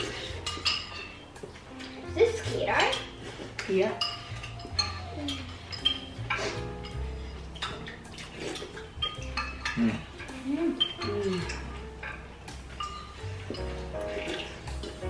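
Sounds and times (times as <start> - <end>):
spoons clinking against soup bowls: 0.0 - 15.0.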